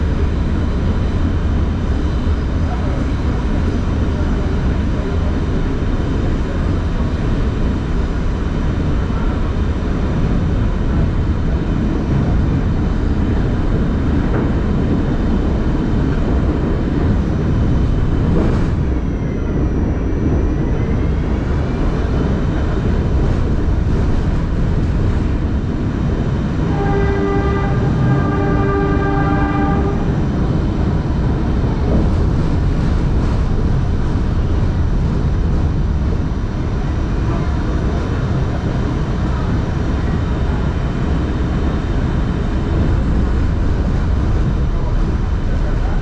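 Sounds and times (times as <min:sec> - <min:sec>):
steady train tones: 0:00.0 - 0:46.0
train wheels rumbling: 0:00.0 - 0:46.0.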